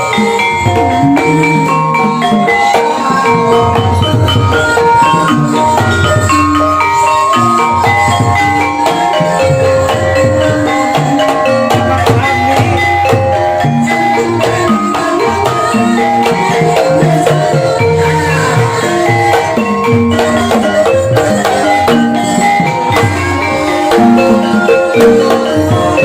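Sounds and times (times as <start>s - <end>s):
drums: 0.0s - 26.0s
mallet-struck keyed instruments: 0.0s - 26.0s.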